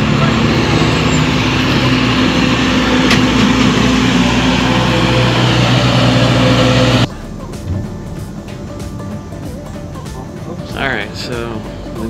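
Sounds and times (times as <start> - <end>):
generator engine drone: 0.0 - 12.0.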